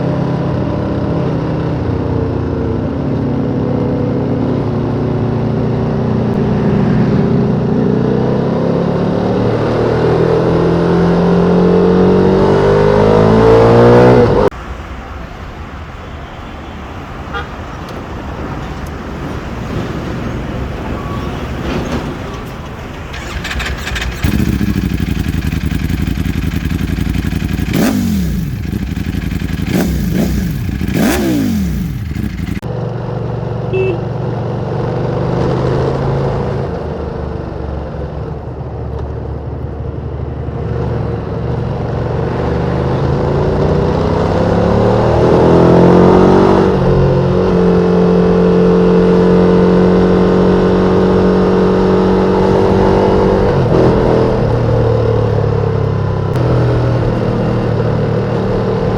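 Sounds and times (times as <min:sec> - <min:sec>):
motorcycle engine revving: 0:00.0 - 0:14.5, 0:23.1 - 0:38.4, 0:40.2 - 0:58.9.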